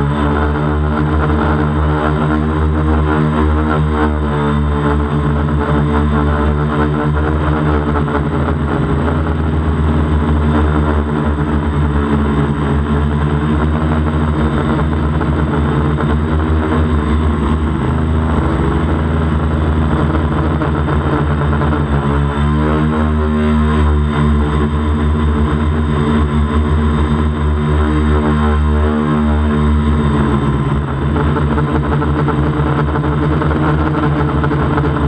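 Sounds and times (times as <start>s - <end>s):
drone motors and propellers: 0.0s - 35.0s.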